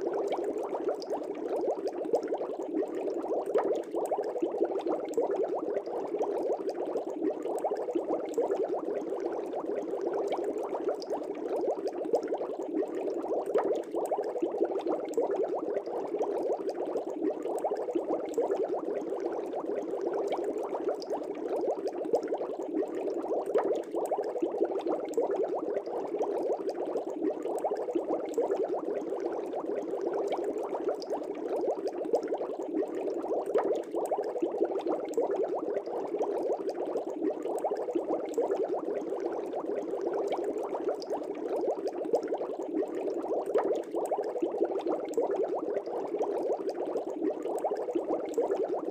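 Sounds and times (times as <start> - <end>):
aquarium air bubbling: 0.0 - 48.9.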